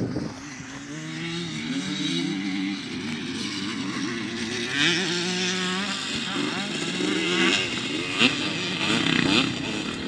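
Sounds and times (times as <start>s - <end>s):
dirt bikes revving: 0.0s - 10.0s.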